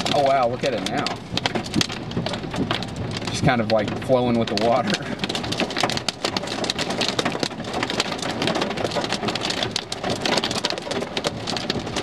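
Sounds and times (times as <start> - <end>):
hail and rain pattering: 0.0 - 12.0
sharp hailstone impacts: 0.0 - 12.0.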